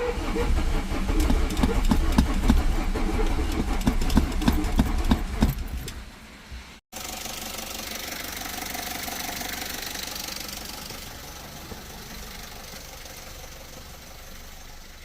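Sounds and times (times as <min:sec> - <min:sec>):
diesel engine idling: 0:00.0 - 0:05.9, 0:06.9 - 0:15.0.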